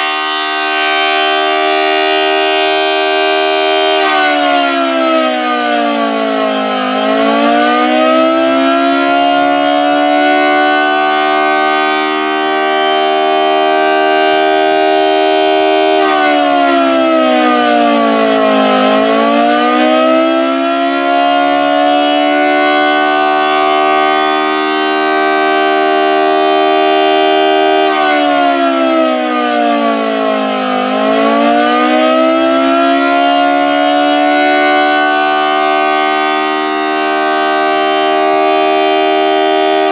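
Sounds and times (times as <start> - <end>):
two-tone civil defense siren: 0.0 - 39.9.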